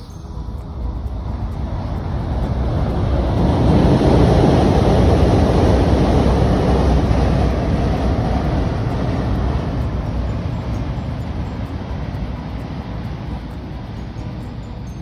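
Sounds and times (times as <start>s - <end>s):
freight train rumbling over bridge: 0.0s - 15.0s.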